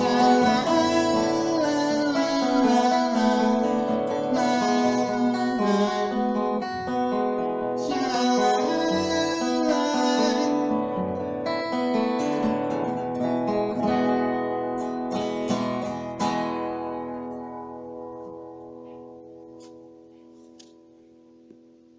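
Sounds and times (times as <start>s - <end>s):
acoustic guitar strumming: 0.0s - 21.8s.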